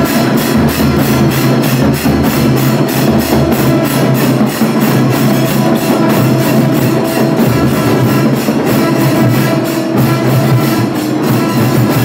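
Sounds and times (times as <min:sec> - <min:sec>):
fast steady drum beat: 0:00.0 - 0:12.0.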